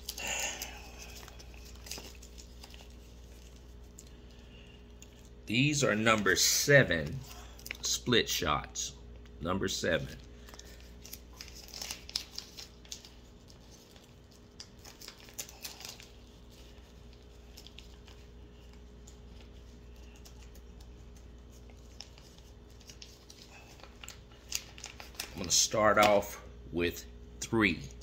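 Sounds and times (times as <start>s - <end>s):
plastic package crinkling: 0.0s - 7.9s, 10.1s - 26.3s.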